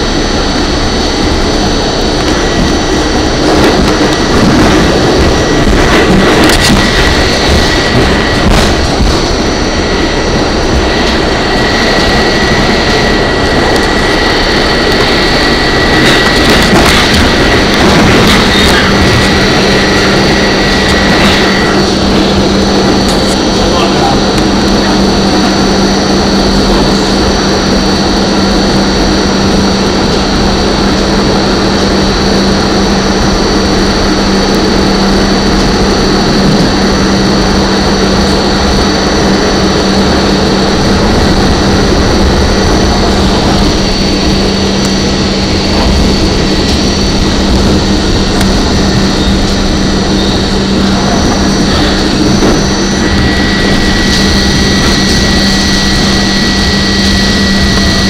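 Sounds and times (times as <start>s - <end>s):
low hum: 0.0s - 58.0s
subway train rumble: 0.0s - 58.0s
thin high whine: 0.0s - 58.0s.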